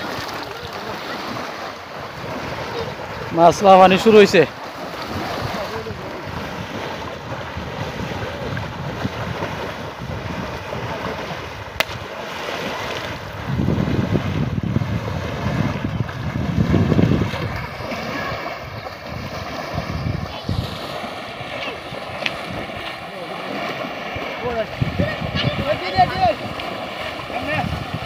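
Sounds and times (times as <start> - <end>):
people splashing through water: 0.0 - 28.0
wind buffeting microphone: 0.0 - 28.0.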